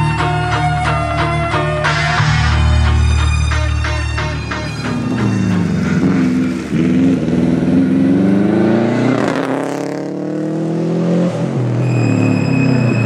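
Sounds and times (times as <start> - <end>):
rally car engine accelerating: 1.9 - 13.0.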